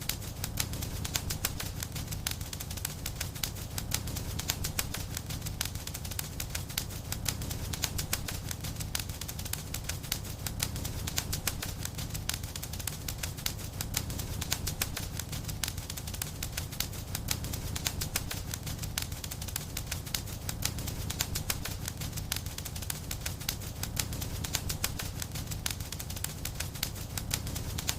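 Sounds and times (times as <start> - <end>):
low rumble of flames: 0.0 - 27.9
wood fire crackling: 0.0 - 27.9.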